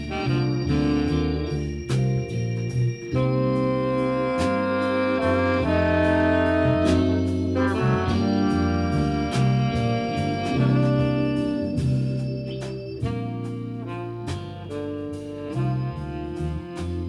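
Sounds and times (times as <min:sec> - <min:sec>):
bass line: 0:00.0 - 0:17.0
horns holding chords: 0:00.0 - 0:17.0.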